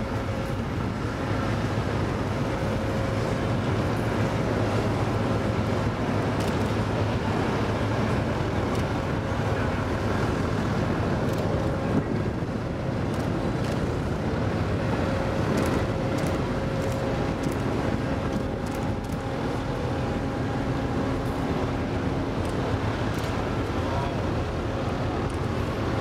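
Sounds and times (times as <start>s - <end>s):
machinery rumbling and droning: 0.0s - 26.0s.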